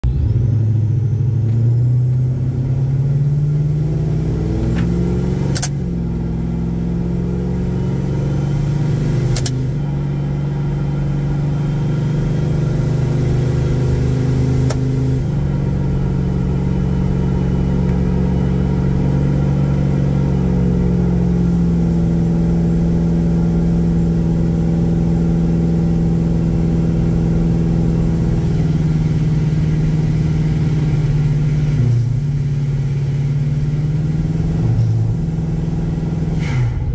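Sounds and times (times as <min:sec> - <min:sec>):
pickup engine accelerating: 0:00.0 - 0:36.9.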